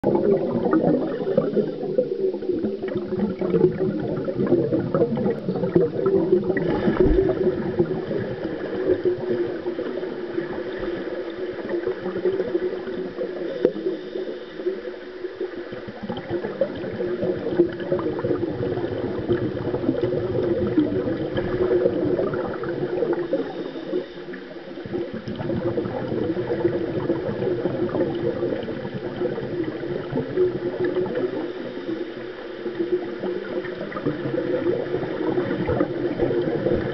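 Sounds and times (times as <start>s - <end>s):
muffled underwater churning: 0.0s - 36.9s.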